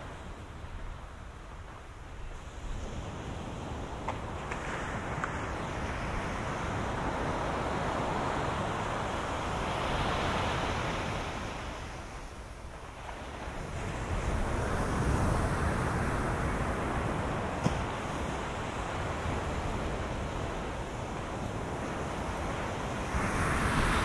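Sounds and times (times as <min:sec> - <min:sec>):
waves breaking on a beach: 0:00.0 - 0:24.0.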